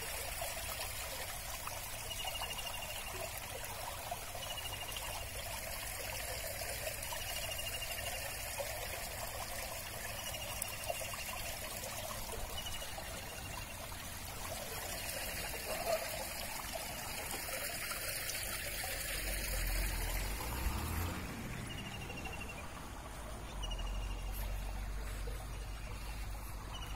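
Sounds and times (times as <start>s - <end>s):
water trickling: 0.0s - 26.9s.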